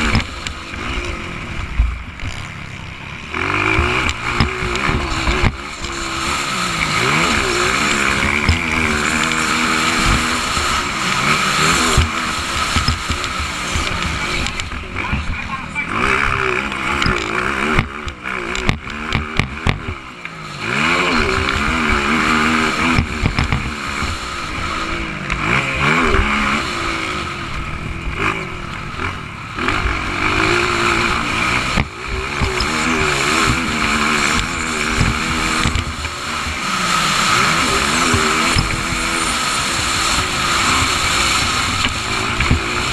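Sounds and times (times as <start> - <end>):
motocross bike engines racing: 0.0 - 42.9.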